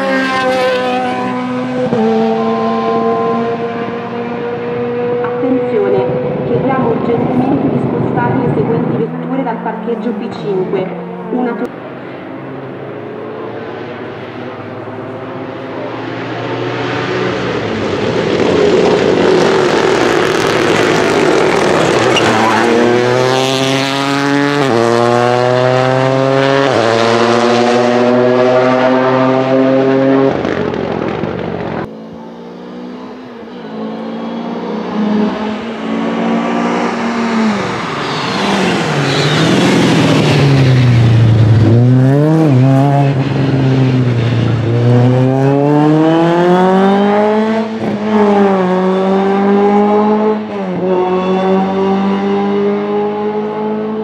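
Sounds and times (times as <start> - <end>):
rally car engine at full throttle: 0.0 - 54.0
rally car engine revving: 0.0 - 54.0.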